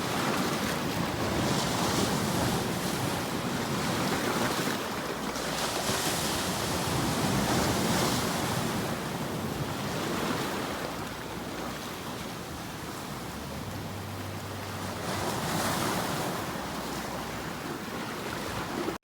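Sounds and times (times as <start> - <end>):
waves washing in: 0.0 - 19.0.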